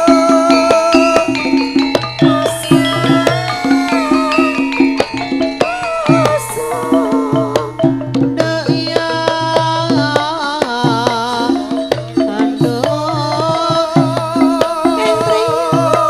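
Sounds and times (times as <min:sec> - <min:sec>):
hand drum strokes: 0:00.0 - 0:16.0
ringing metallophones: 0:00.0 - 0:16.0
wavering melody line: 0:00.0 - 0:16.0.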